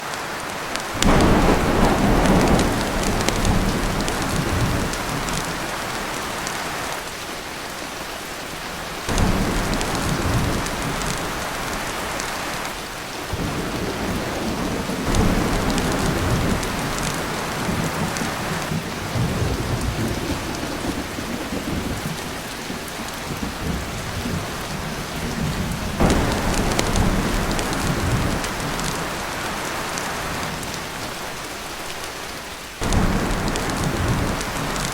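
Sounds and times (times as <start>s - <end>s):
heavy rain on a tin roof: 0.0s - 34.9s
thunder rumbling: 0.9s - 6.9s, 9.1s - 31.0s, 32.8s - 34.9s.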